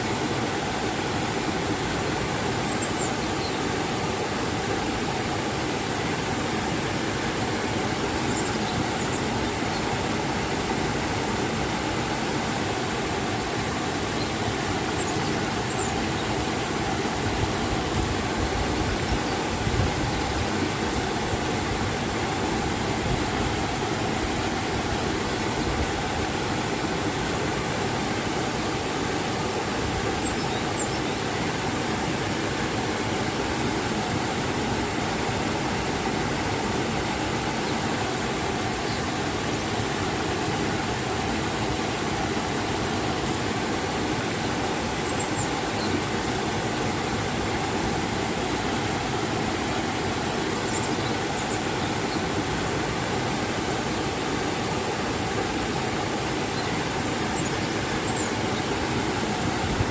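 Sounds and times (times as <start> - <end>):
water rushing over waterfall: 0.0 - 59.9.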